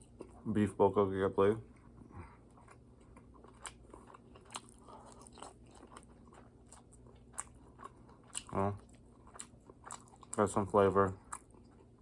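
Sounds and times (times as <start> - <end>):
person chewing: 0.0 - 0.4, 1.7 - 12.0.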